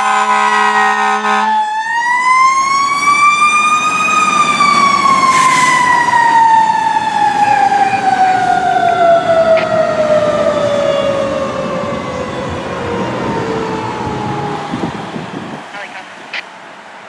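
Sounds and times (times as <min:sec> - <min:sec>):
fire engine siren winding down: 0:00.0 - 0:16.4.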